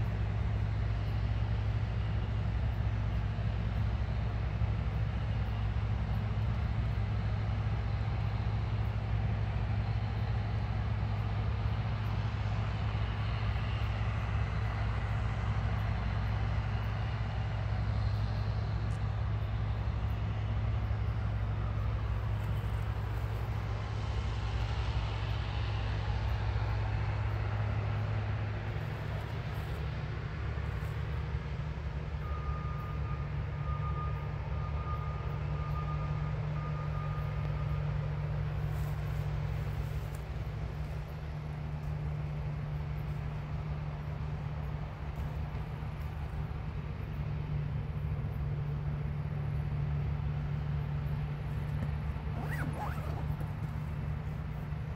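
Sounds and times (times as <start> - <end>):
combine harvester engine hum: 0.0 - 54.9.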